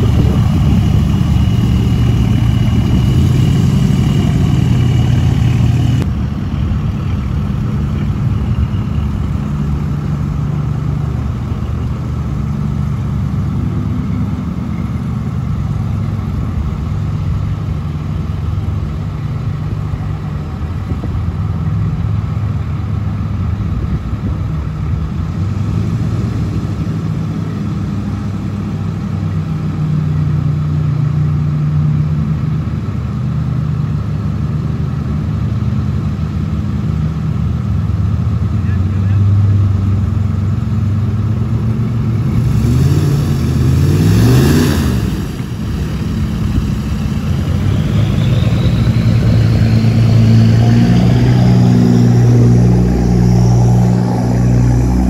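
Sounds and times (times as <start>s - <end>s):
pickup truck engine rumbling: 0.0s - 55.0s.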